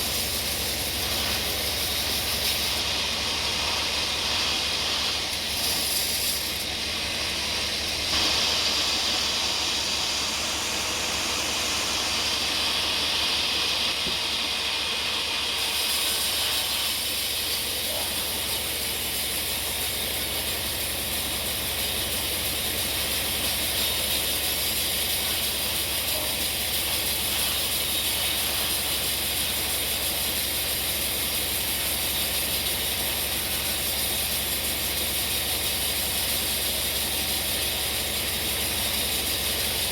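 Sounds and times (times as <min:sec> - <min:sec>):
rhythmic mechanical hum: 0:00.0 - 0:39.9
saw blade cutting log: 0:00.0 - 0:39.9.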